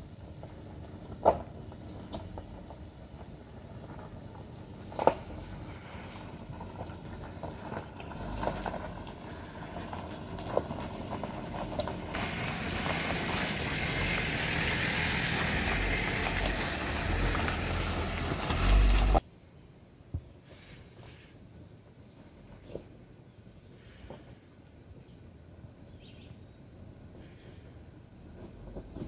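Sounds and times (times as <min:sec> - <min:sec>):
engine running at low crawl: 0:00.0 - 0:19.2, 0:20.5 - 0:29.0
tires crunching over gravel: 0:00.0 - 0:19.2, 0:20.5 - 0:29.0.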